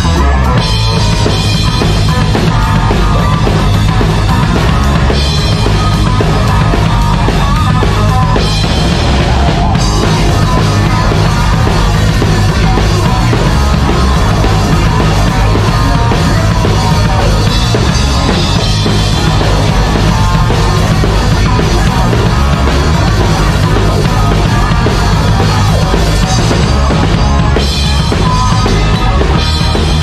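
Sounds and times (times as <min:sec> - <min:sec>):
heavy metal band playing live: 0:00.0 - 0:30.0.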